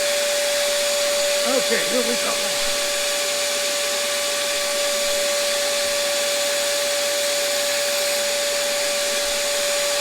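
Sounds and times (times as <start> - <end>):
shop vacuum running: 0.0 - 10.0
surface grinder whine: 0.0 - 10.0.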